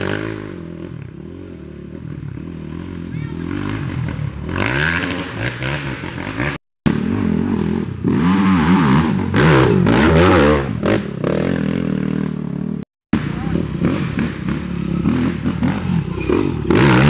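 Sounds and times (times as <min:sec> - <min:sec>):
atv engines revving: 0:00.0 - 0:17.0.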